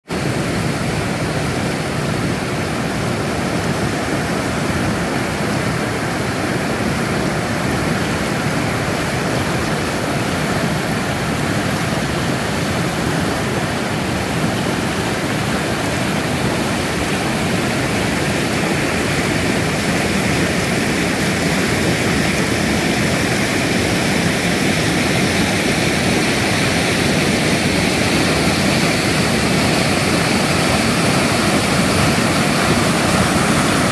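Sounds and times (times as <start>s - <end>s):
water rushing over rocks: 0.1s - 33.9s.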